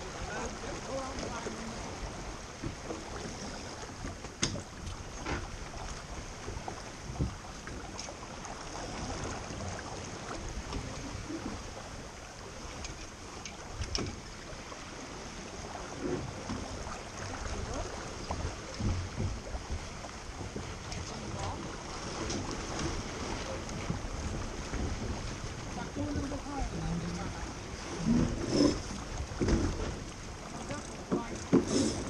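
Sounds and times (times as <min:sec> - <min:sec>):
water rushing past boat: 0:00.0 - 0:32.0.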